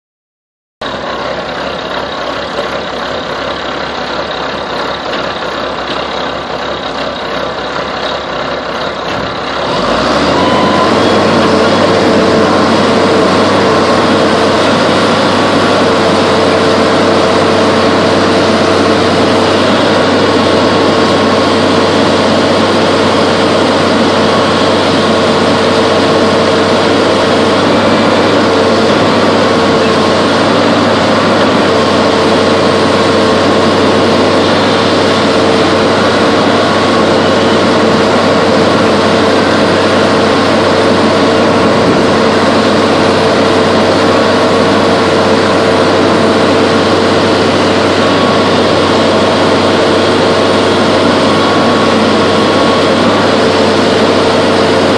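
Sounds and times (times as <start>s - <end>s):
diesel engine revving: 0.8s - 54.9s
steady whine: 0.8s - 54.9s.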